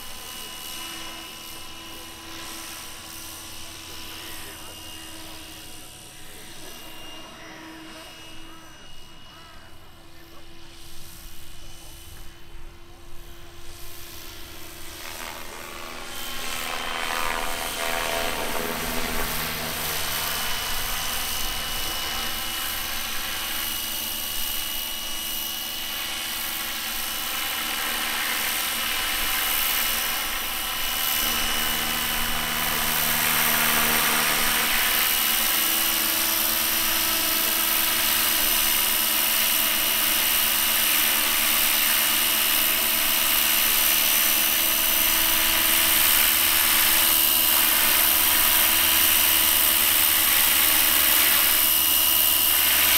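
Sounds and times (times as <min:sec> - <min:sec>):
model helicopter rotor noise: 0:00.0 - 0:52.9.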